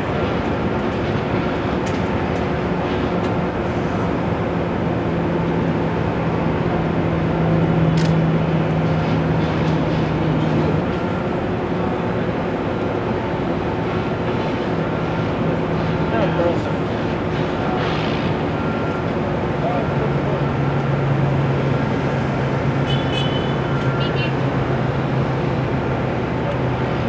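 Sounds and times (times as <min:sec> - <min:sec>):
heavy machinery droning: 0:00.0 - 0:27.0.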